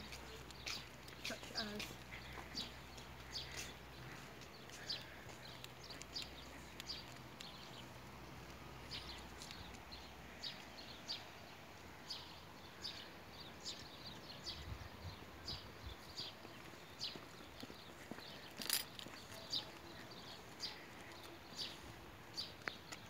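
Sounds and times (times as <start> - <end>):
footsteps on a garden path: 0.0 - 23.0.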